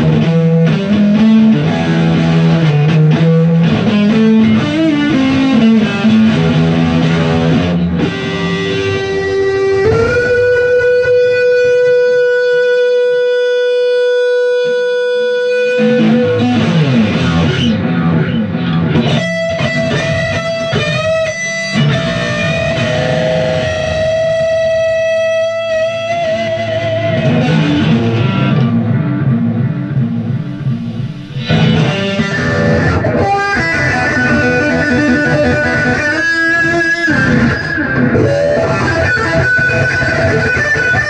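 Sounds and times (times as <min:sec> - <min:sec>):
loud electric guitar: 0:00.0 - 0:41.0.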